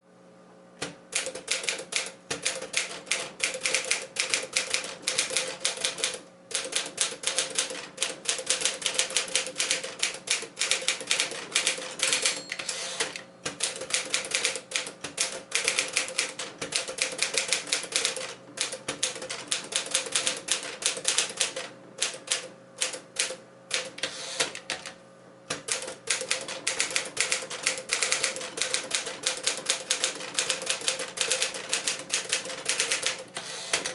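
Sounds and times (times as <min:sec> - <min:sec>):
manual typewriter key strikes: 0:01.2 - 0:23.9, 0:25.5 - 0:33.9.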